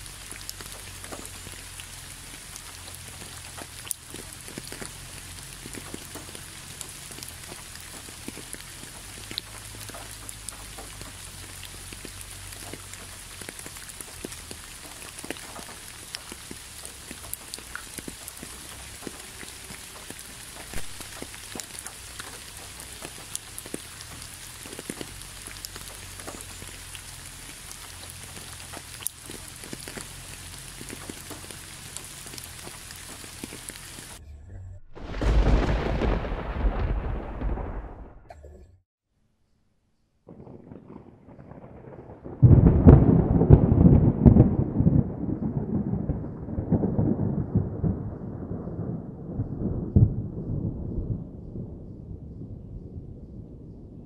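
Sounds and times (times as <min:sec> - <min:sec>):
rain drops ticking: 0:00.0 - 0:34.2, 0:35.1 - 0:38.1, 0:40.3 - 0:52.2.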